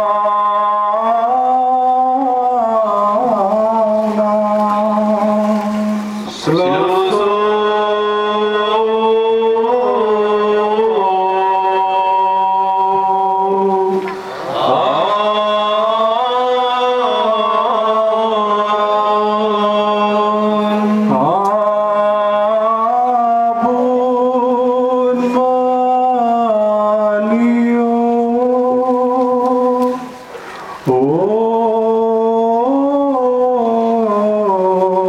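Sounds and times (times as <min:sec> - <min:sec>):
liturgical chanting: 0:00.0 - 0:35.0.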